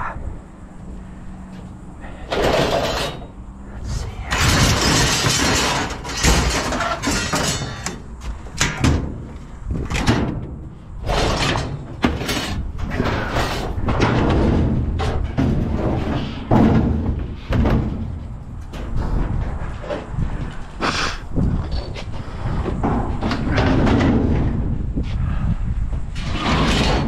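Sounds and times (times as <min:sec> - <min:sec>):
scrap metal clattering and scraping: 0:01.4 - 0:25.3, 0:26.1 - 0:27.0.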